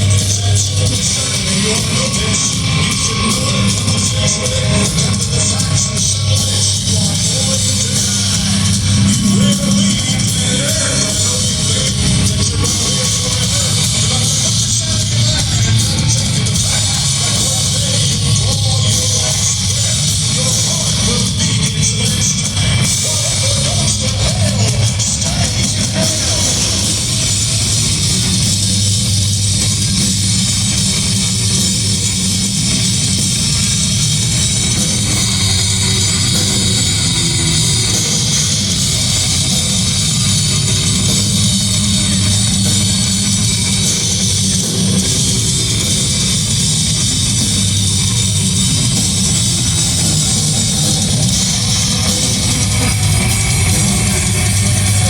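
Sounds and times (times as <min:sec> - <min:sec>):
distorted electric guitars: 0:00.0 - 0:55.0
drum kit with cymbals: 0:00.0 - 0:55.0.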